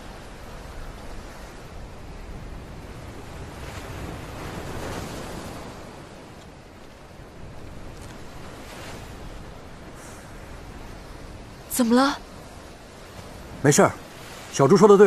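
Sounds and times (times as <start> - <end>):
waves breaking on rocks: 0.0 - 15.0.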